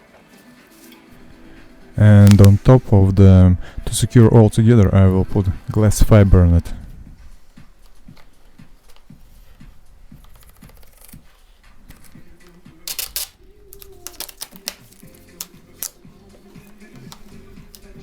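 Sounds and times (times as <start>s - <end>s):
crinkling rustles: 0.0s - 3.1s, 5.2s - 18.0s
soft background music: 0.0s - 18.0s.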